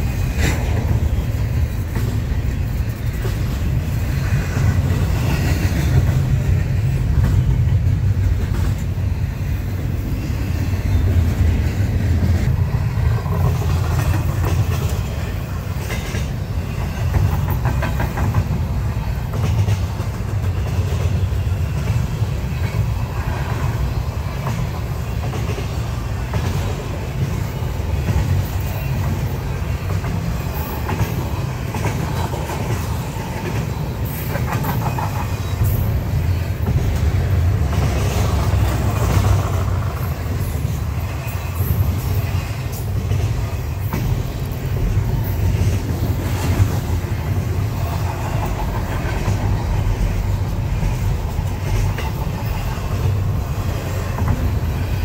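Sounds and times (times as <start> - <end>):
train wheels rumbling on rails: 0.0 - 55.0
wheels clicking over rail joints: 0.0 - 55.0.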